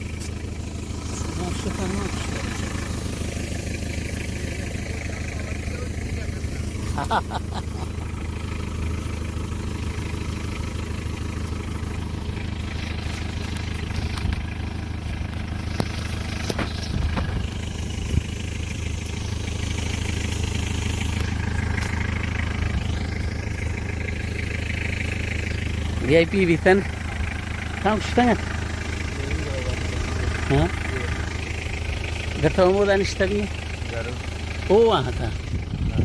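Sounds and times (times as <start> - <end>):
jeep engine idling: 0.0 - 36.0.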